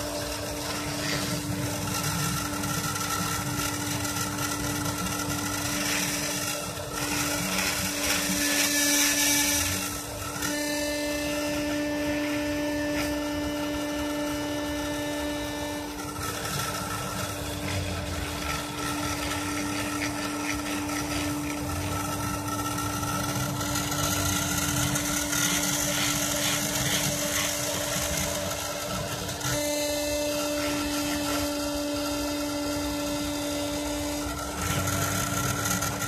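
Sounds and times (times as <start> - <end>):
bit cutting into plastic: 0.0 - 36.0
spindle motor humming: 0.0 - 36.0
stepper motors whining: 0.0 - 36.0.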